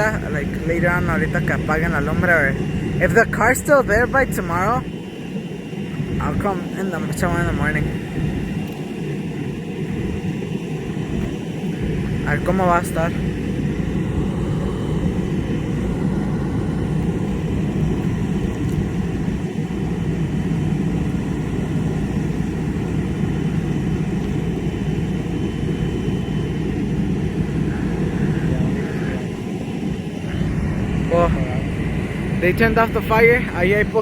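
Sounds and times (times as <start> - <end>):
large engine droning: 0.0 - 34.0.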